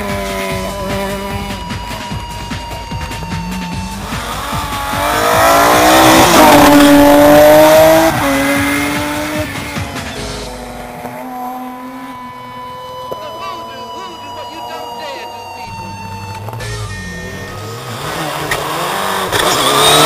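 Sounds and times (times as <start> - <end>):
rally car engine passing: 0.0 - 20.0.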